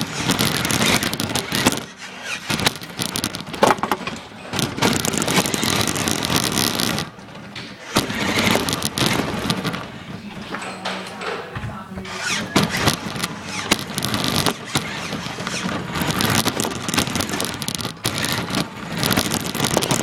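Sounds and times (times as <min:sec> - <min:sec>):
toy car wheels rattling and scraping: 0:00.0 - 0:10.6, 0:12.1 - 0:20.0.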